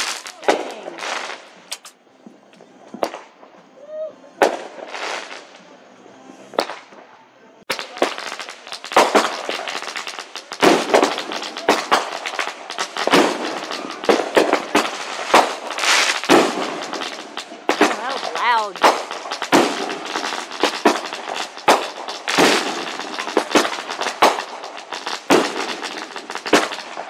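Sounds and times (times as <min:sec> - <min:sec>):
firework bangs: 0:00.0 - 0:03.7, 0:04.4 - 0:05.8, 0:06.4 - 0:27.0
fireworks popping and crackling: 0:00.0 - 0:03.7, 0:04.4 - 0:05.8, 0:06.4 - 0:27.0.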